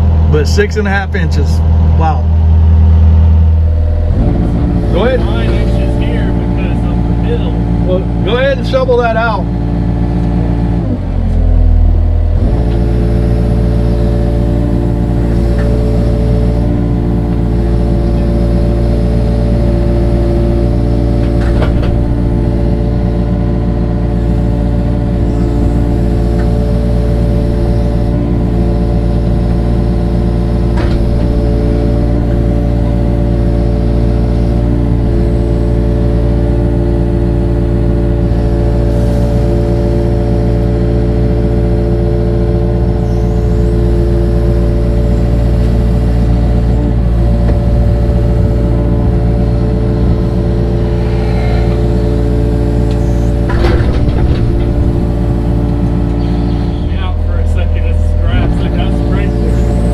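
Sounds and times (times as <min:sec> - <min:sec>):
digging machine engine: 0:00.0 - 0:59.9.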